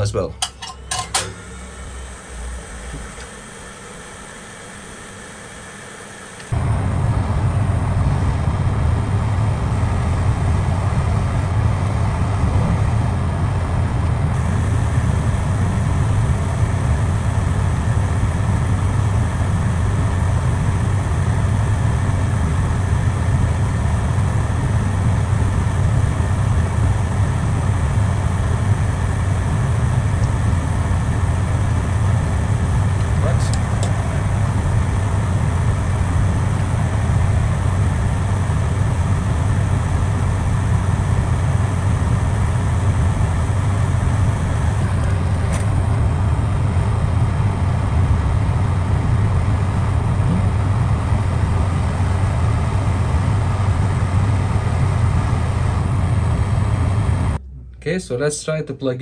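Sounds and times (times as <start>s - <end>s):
hot air station blowing: 0.0s - 58.6s.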